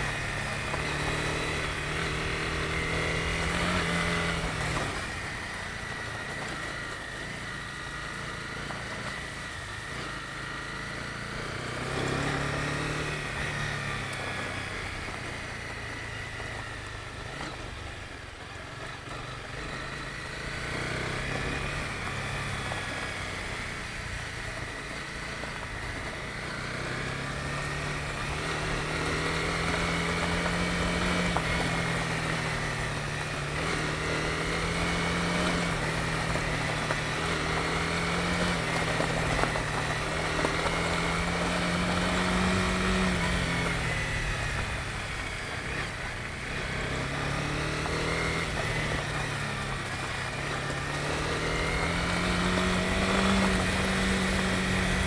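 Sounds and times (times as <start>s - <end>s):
motorcycle engine revving: 0.0s - 55.0s
road and tyre noise: 0.0s - 55.0s.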